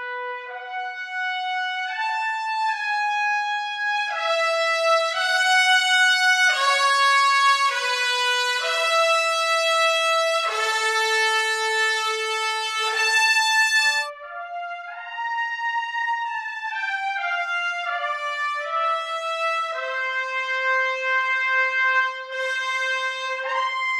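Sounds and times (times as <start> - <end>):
trumpets playing long held notes: 0.0 - 23.9.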